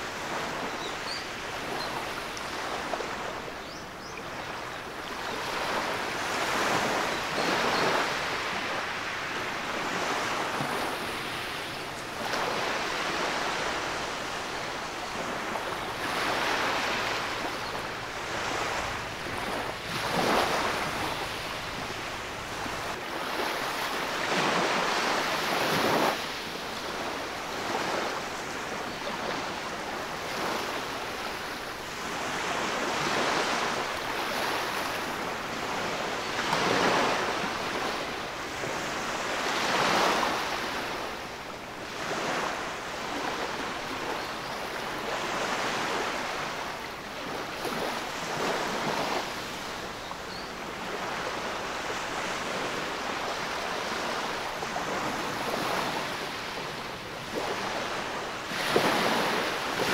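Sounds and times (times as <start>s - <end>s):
small waves washing over sand: 0.0s - 59.9s.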